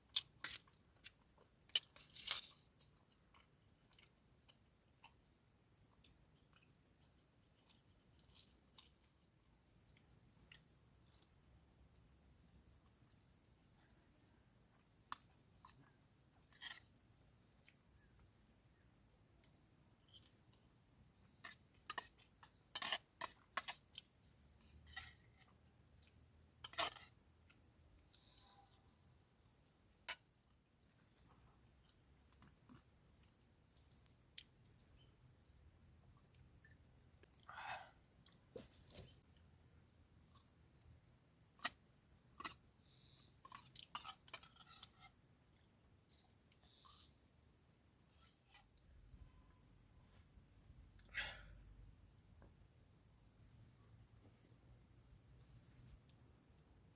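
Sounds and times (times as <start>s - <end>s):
cricket chirping: 0.0s - 56.9s.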